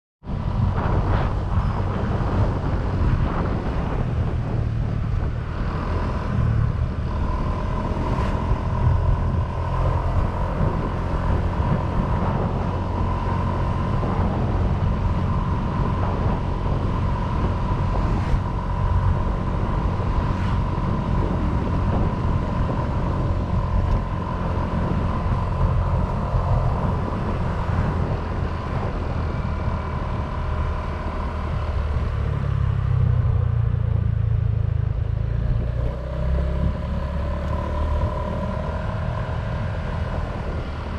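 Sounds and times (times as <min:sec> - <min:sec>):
scooter engine droning: 0:00.3 - 0:40.9.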